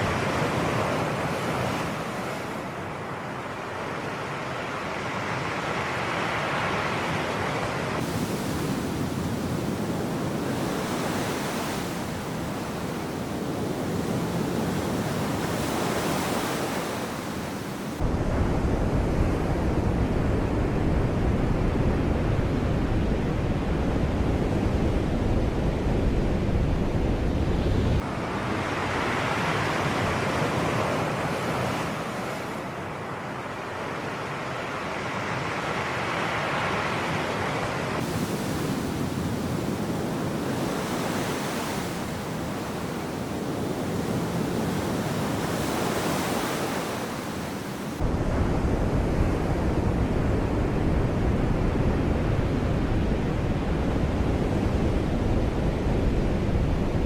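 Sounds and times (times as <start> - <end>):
sea waves washing in: 0.0 - 57.0.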